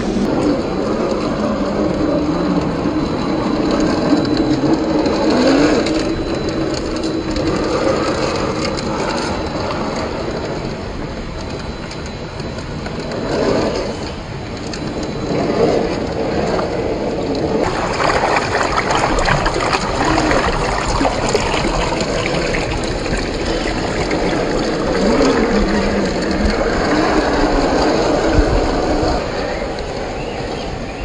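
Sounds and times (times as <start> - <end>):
electric motor whine: 0.0 - 30.9.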